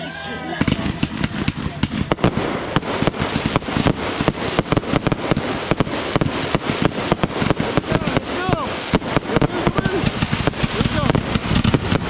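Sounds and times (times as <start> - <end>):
fireworks bangs: 0.6 - 12.0
fireworks crackling: 0.6 - 12.0.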